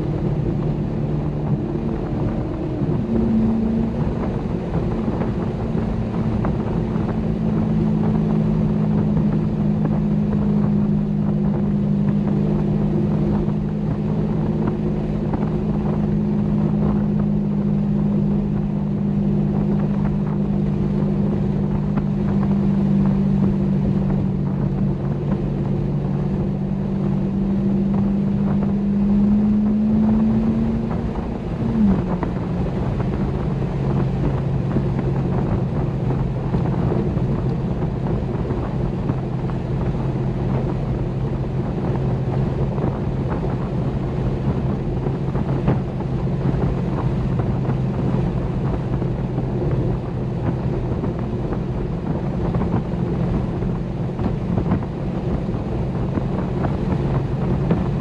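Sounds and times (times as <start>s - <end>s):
car engine running: 0.0s - 58.0s
wind and road noise: 0.0s - 58.0s.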